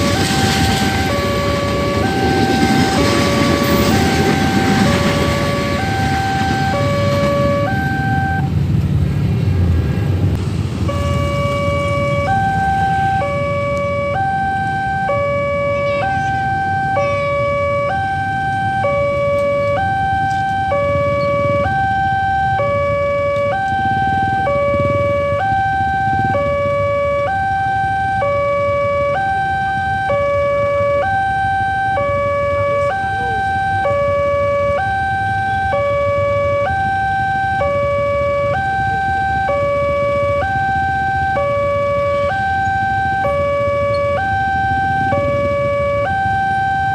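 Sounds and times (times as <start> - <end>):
level crossing two-tone alarm: 0.0 - 8.5, 10.9 - 46.9.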